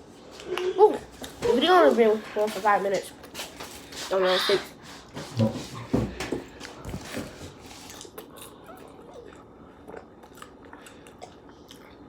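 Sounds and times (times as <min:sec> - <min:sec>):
crunching and chewing chips: 0:00.2 - 0:12.0.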